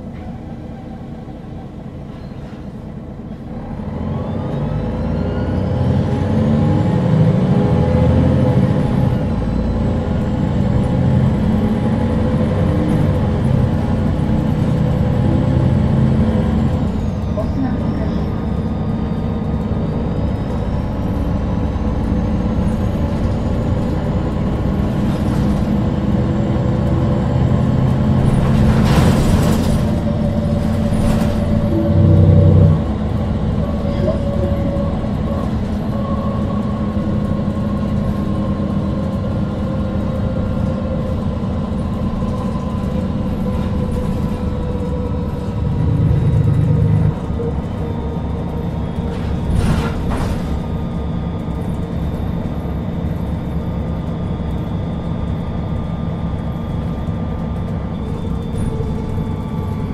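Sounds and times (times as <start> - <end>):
bus engine droning on the move: 0.0 - 59.9.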